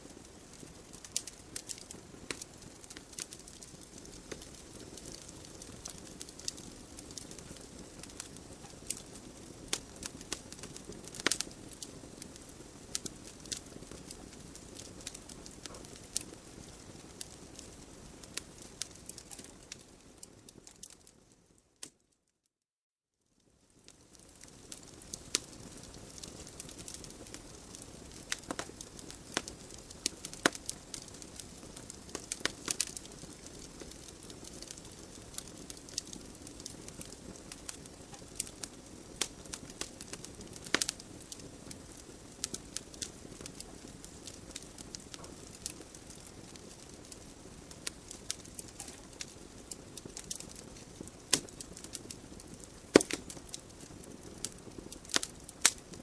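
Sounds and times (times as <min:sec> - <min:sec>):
low hiss of flames: 0:00.0 - 0:21.6, 0:23.6 - 0:56.0
logs crackling and popping: 0:00.0 - 0:22.0, 0:23.6 - 0:56.0.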